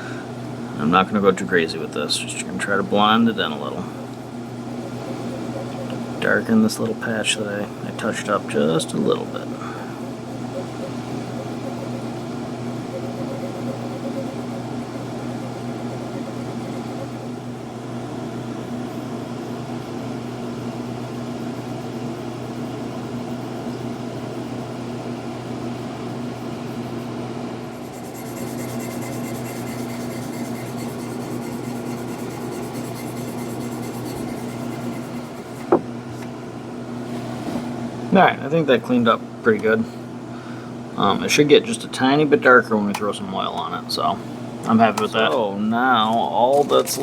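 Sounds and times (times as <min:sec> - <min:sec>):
machine hum: 0:00.0 - 0:47.0.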